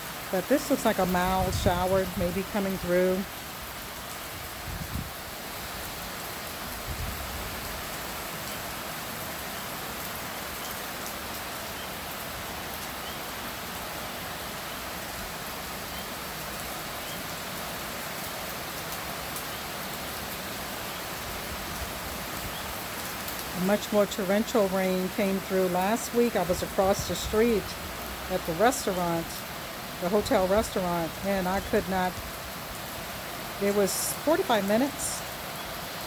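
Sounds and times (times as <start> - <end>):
light rain falling: 0.0 - 36.0.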